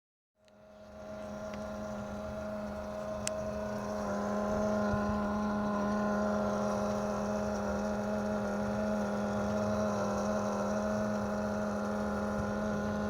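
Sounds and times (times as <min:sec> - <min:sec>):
car low hum: 0:00.5 - 0:13.0.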